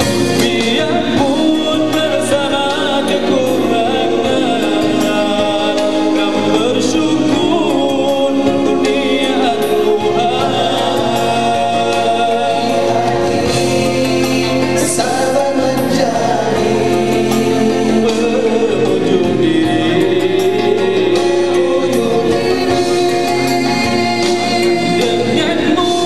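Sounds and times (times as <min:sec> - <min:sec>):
low bass line: 0:00.0 - 0:26.0
male vocal group singing: 0:00.0 - 0:26.0.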